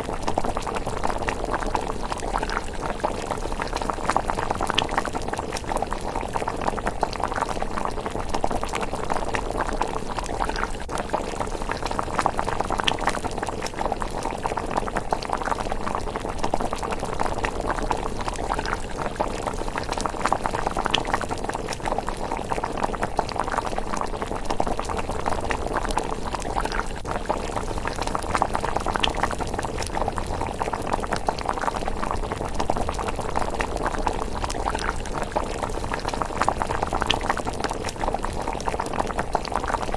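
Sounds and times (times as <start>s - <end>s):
porridge simmering and popping: 0.0s - 39.9s.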